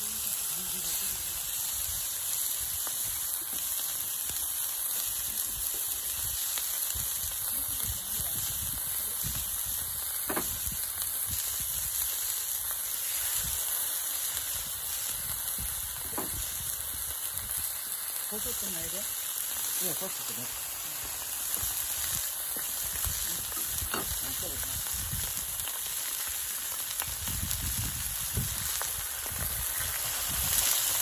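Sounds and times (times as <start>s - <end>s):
faint crackles: 0.0s - 31.0s
meat sizzling on a griddle: 0.0s - 31.0s.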